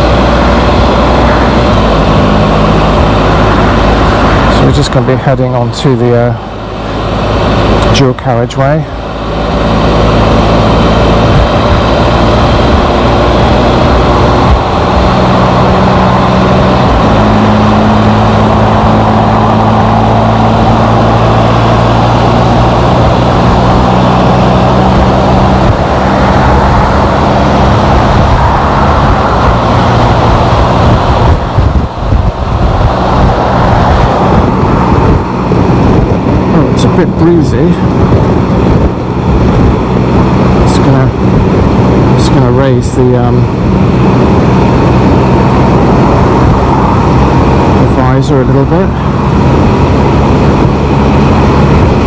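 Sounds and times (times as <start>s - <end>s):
motorcycle engine: 0.0s - 52.0s
wind and road noise: 0.0s - 52.0s.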